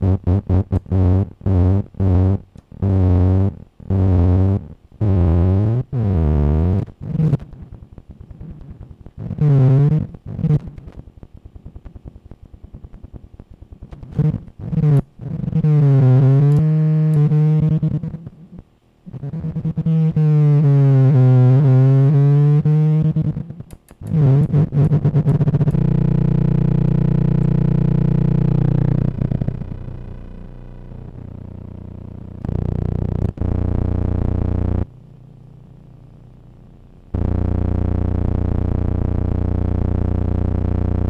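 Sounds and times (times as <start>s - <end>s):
buzzing feedback tone: 0.0s - 7.5s, 8.6s - 10.7s, 13.8s - 34.9s, 37.1s - 41.0s.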